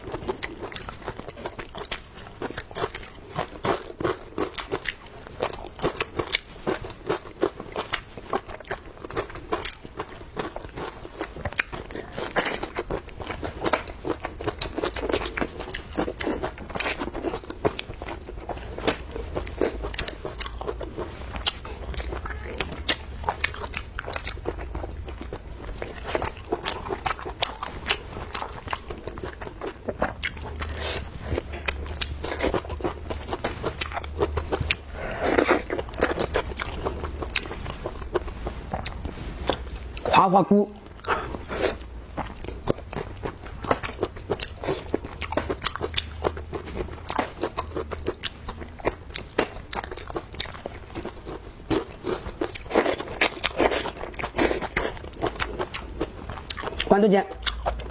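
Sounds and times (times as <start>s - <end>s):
person chewing crunchy food: 0.0s - 57.9s.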